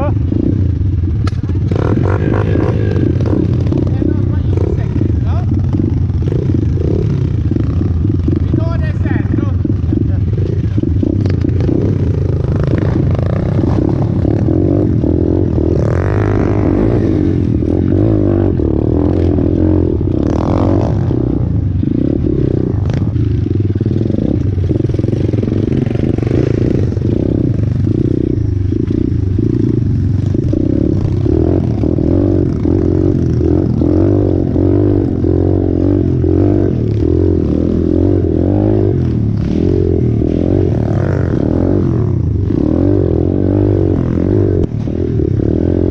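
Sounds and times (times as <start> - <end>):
motorbike engine revving: 0.0 - 45.9.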